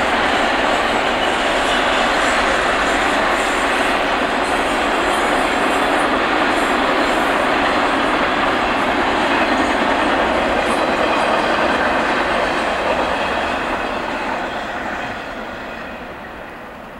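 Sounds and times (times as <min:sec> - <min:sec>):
steel wheels on rails: 0:00.0 - 0:16.9.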